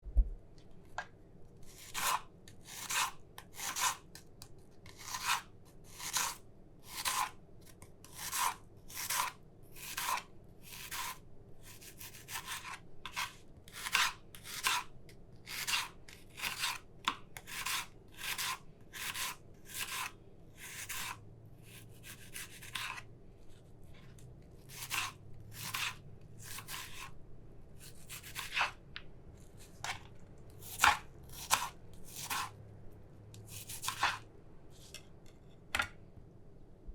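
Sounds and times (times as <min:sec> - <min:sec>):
knife slicing an onion: 0:01.6 - 0:27.2, 0:27.8 - 0:28.8, 0:29.5 - 0:32.6, 0:33.3 - 0:34.9.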